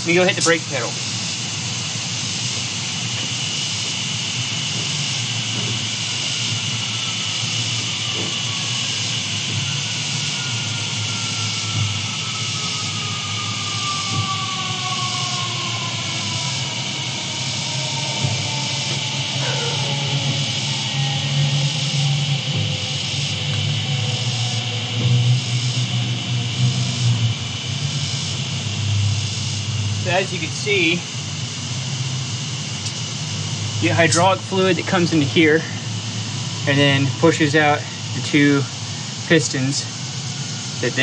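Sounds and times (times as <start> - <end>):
distant jet aircraft roar: 0.0 - 41.0
faint falling whine: 0.0 - 41.0.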